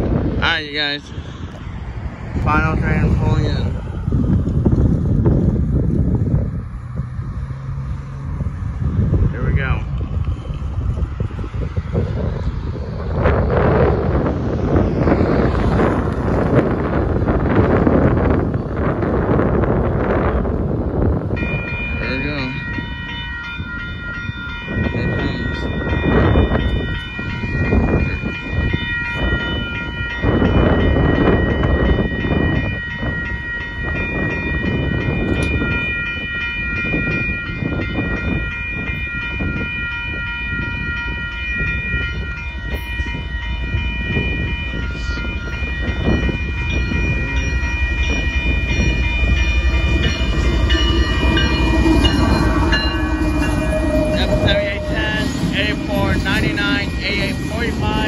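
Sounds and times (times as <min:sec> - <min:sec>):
diesel freight train rumble: 0:00.0 - 0:58.0
railroad crossing bell ringing: 0:00.0 - 0:58.0.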